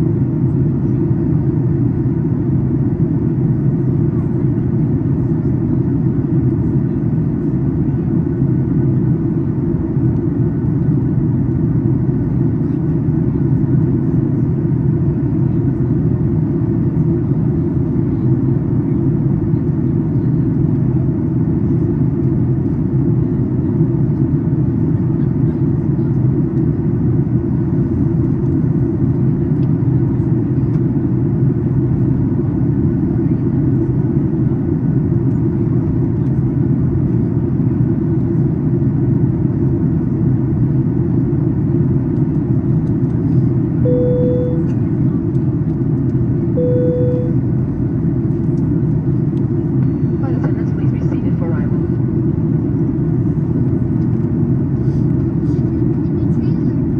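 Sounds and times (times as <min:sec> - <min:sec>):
airplane cabin rumble: 0:00.0 - 0:56.9.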